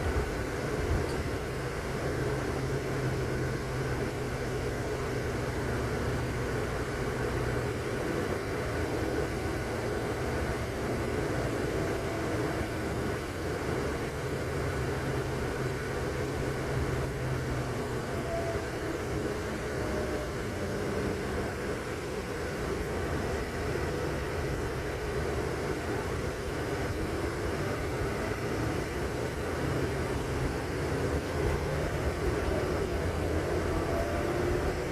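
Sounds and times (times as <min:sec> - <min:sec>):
constant low hum: 0:00.0 - 0:34.9
moving vehicle rumble: 0:00.0 - 0:34.9.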